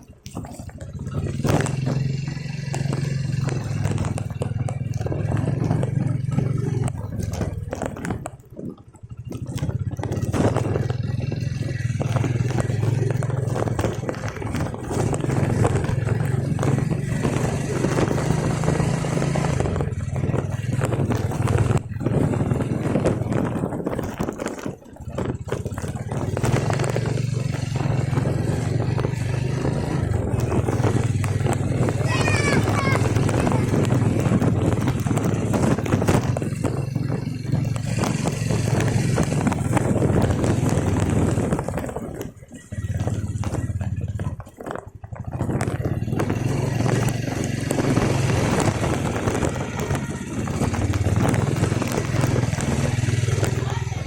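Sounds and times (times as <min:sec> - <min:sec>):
engine running with clatter: 0:00.0 - 0:54.0.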